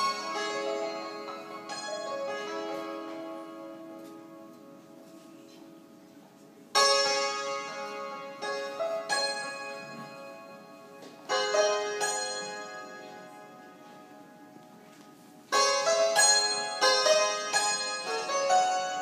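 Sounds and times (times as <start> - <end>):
hammered dulcimer playing: 0.0 - 5.9, 6.7 - 14.5, 15.4 - 19.0.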